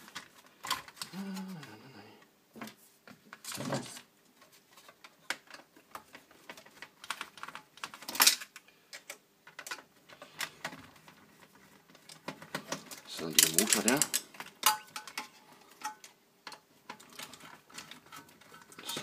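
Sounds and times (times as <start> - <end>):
parts clattering: 2.6 - 19.0
small plastic and metal parts rattling: 3.4 - 19.0.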